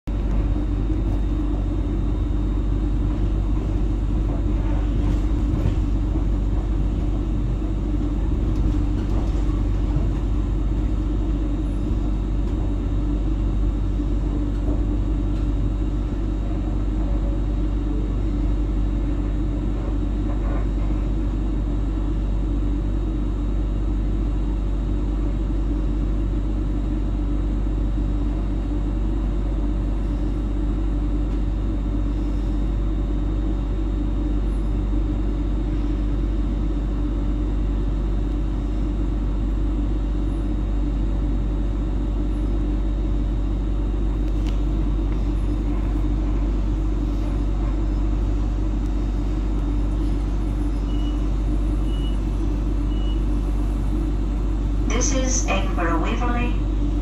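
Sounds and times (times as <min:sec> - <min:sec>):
train rumbling on rails: 0:00.1 - 0:57.0.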